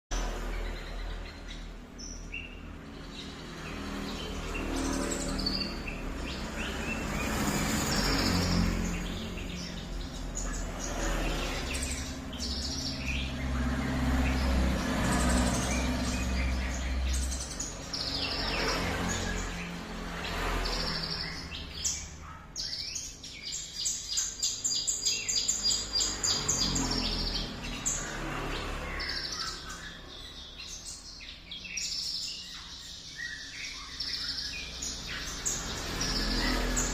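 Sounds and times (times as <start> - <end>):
songbird singing: 0.1 - 36.9.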